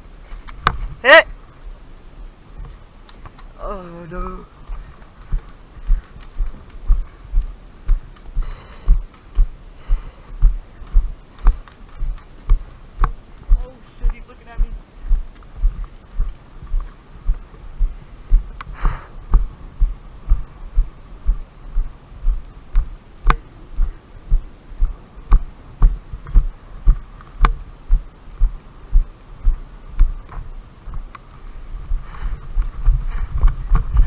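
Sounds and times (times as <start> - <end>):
low rhythmic footfall thumps: 4.6 - 34.0.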